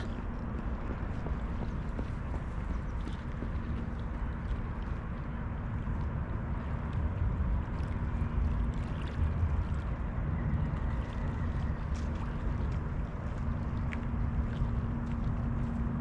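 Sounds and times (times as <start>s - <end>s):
faint steady hum: 0.0s - 16.0s
moving water: 0.0s - 16.0s
wind rumbling on microphone: 0.0s - 16.0s.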